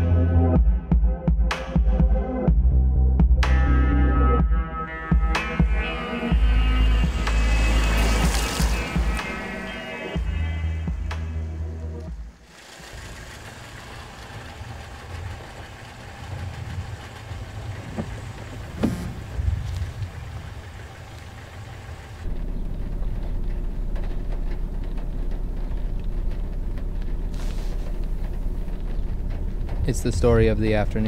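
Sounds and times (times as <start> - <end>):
car engine idling: 4.9 - 31.0.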